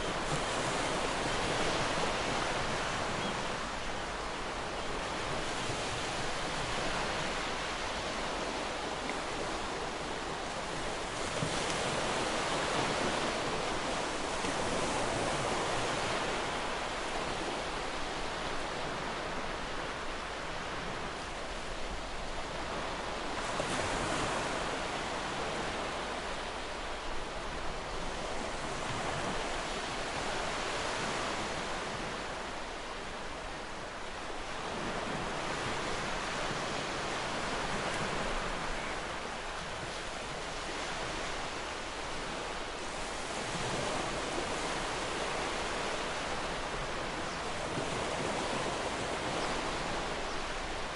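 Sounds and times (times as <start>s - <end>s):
ocean waves breaking on beach: 0.0s - 50.9s.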